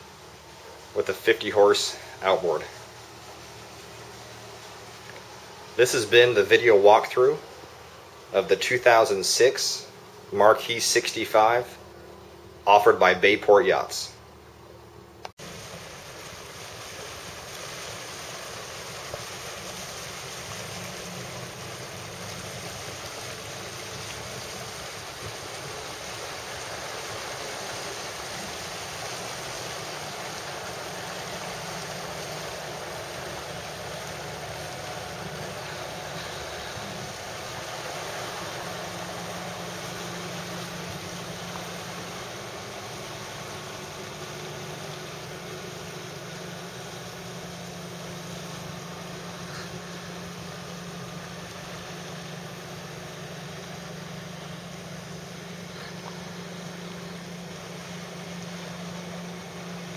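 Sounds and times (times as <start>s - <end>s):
rushing water: 0.0s - 11.8s, 15.4s - 59.9s
boat engine drone: 0.0s - 59.9s.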